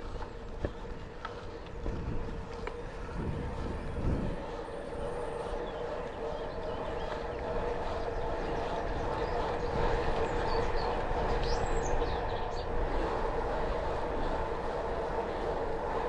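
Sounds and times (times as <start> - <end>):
bike tyres rolling on pavement: 0.0 - 16.0
constant hum: 0.0 - 16.0
wind rush: 0.0 - 16.0.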